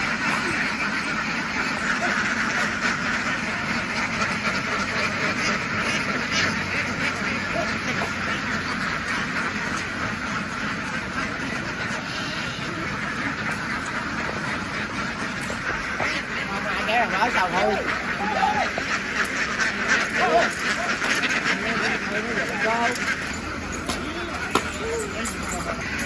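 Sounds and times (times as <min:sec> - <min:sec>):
flock of ducks quacking: 0:00.0 - 0:26.0.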